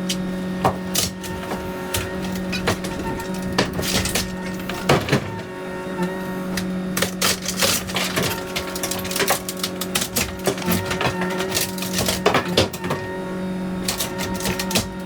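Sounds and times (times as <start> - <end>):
debris cracking and crunching: 0.0 - 15.0
excavator engine drone: 0.0 - 15.0.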